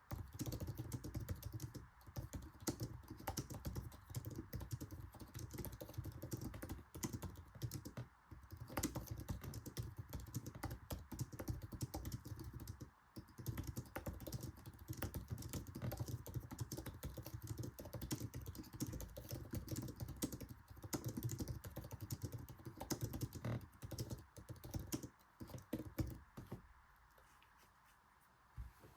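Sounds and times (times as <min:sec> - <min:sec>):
fast keyboard typing: 0:00.0 - 0:26.6.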